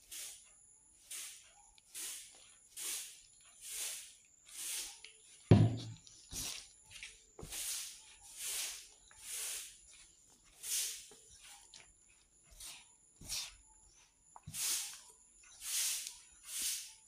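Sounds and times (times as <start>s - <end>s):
hand mixing flour in bowl: 1.1s - 17.0s.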